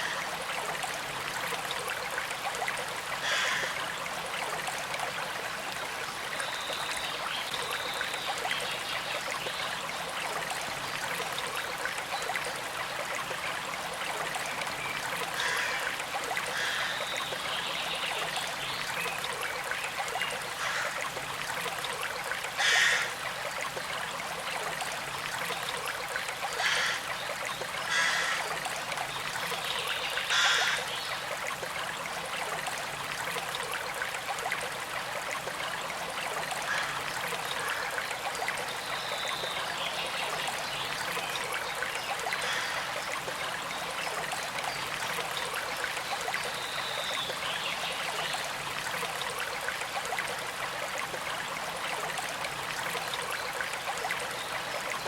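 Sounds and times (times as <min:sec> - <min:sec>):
creek flowing and trickling: 0:00.0 - 0:55.0.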